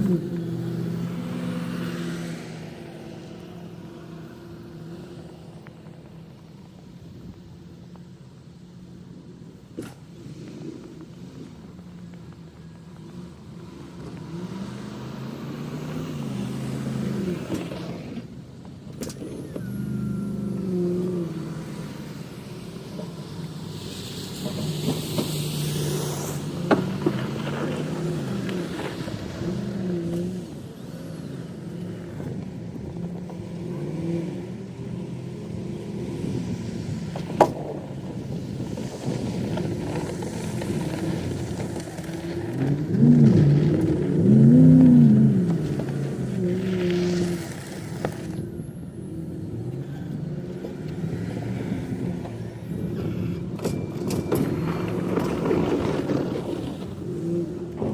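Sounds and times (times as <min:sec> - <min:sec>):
vehicle engine revving: 0:00.0 - 0:06.6, 0:09.1 - 0:57.9.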